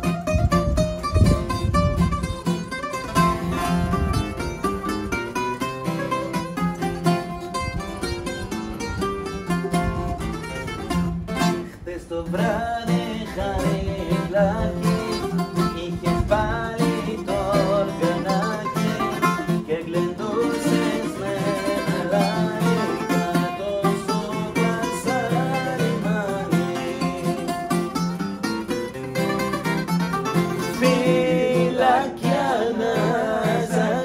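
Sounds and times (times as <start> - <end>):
bouzouki plucked melody: 0.0 - 11.7, 14.9 - 34.0
acoustic guitar strumming: 0.0 - 34.0.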